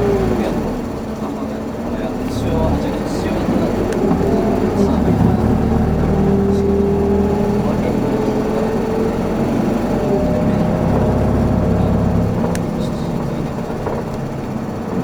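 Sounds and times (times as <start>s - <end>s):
bus engine running inside cabin: 0.0s - 15.0s.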